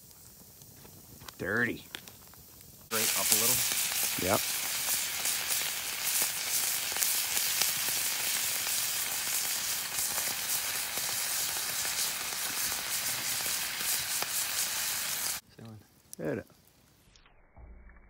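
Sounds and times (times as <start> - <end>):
bacon sizzling in a skillet: 0.0 - 15.4.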